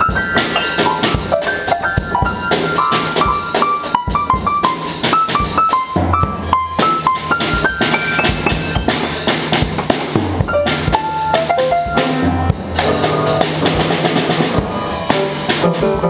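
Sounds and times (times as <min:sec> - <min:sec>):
drum beat with bass drum and snare: 0:00.0 - 0:16.0.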